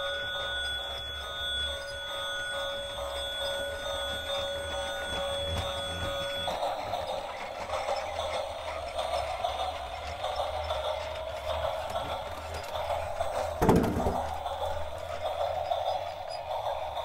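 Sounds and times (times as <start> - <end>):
toy train whirring: 0.0 - 17.0.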